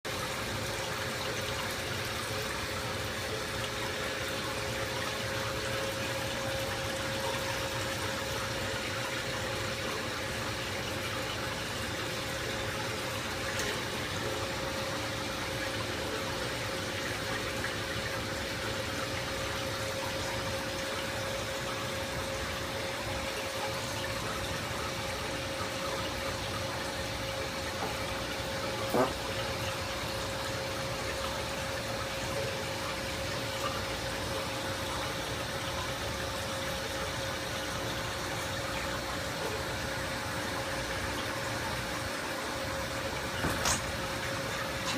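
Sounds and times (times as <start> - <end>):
filter pump humming: 0.0 - 44.9
water splashing and trickling: 0.0 - 44.9.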